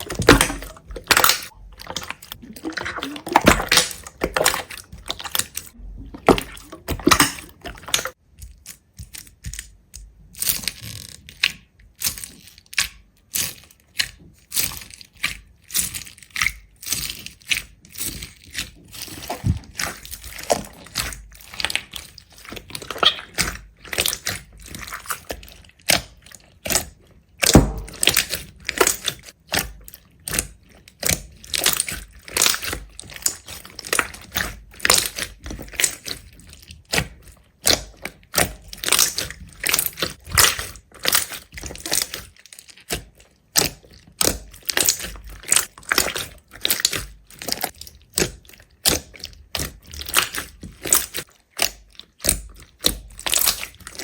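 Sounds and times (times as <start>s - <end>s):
brittle crunching: 0.0s - 54.0s.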